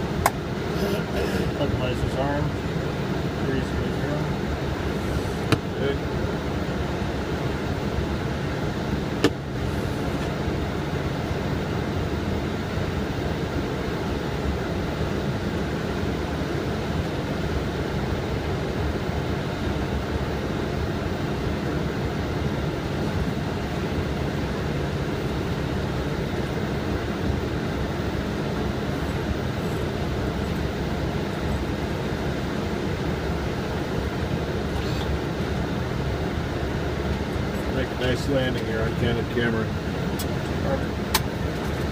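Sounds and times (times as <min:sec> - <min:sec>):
cockpit airflow and air conditioning: 0:00.0 - 0:41.9.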